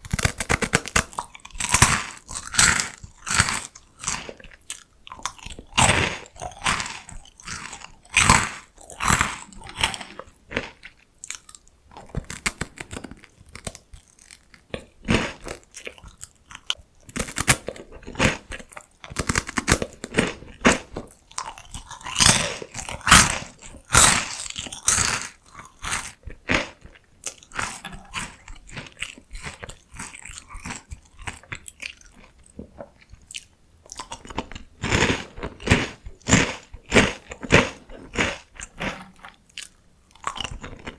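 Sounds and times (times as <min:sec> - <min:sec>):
crunching crispy snacks: 0:00.0 - 0:32.4, 0:33.0 - 0:40.9.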